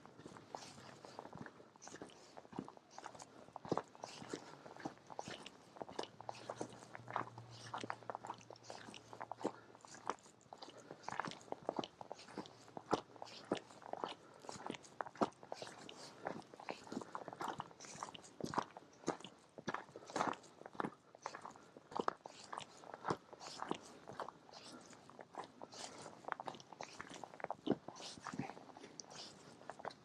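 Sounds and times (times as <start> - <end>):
footsteps crunching on trail: 0.2 - 30.0.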